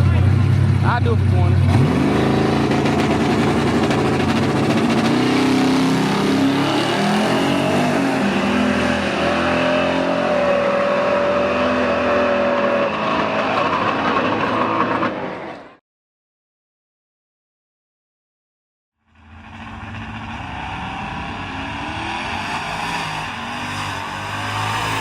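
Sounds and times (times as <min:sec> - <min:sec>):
race car engine at full throttle: 0:00.0 - 0:15.8, 0:19.1 - 0:25.0.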